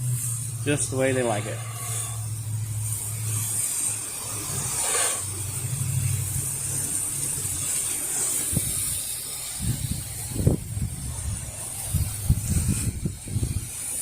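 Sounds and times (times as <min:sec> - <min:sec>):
pressure washer engine hum: 0:00.0 - 0:14.0
water hissing from spray wand: 0:00.0 - 0:14.0.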